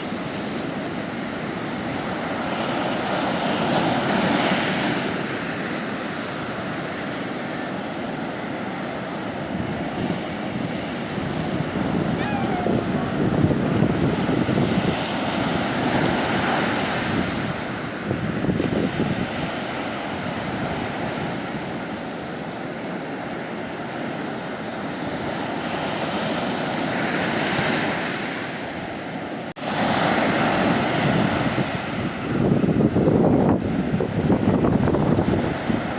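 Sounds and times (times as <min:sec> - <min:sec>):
waves washing on shore: 0:00.0 - 0:35.9.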